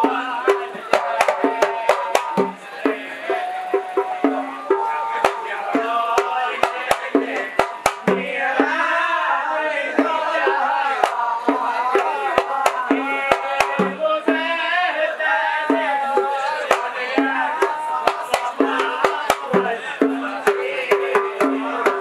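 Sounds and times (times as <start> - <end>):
hand drums sharp strokes: 0.0 - 9.0, 9.8 - 14.6, 15.6 - 22.0
deep drum beats: 0.0 - 22.0
men singing together: 0.0 - 22.0.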